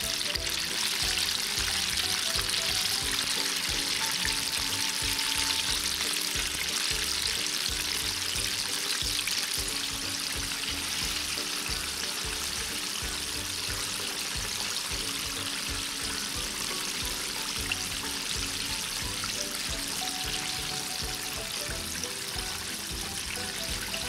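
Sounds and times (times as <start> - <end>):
background music with beat: 0.0 - 24.0
oil sizzling and crackling: 0.0 - 24.0.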